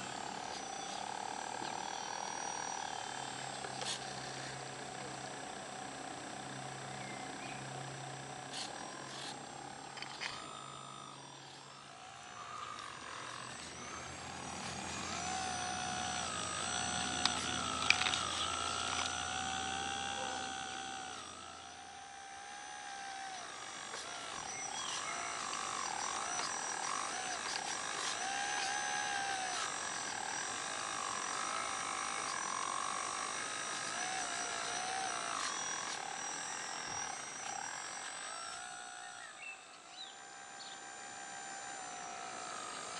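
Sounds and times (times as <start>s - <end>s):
hydraulic pump whining: 0.0s - 42.9s.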